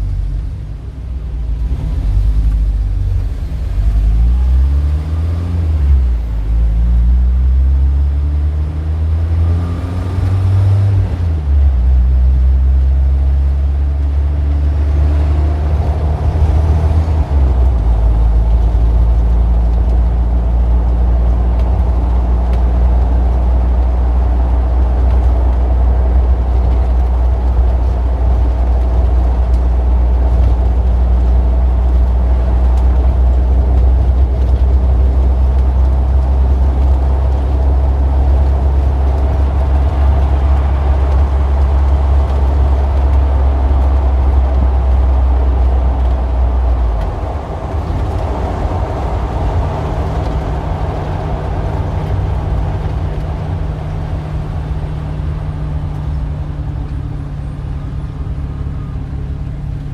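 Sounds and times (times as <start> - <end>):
heavy vehicle engine humming: 0.0 - 59.9
street traffic: 0.0 - 59.9.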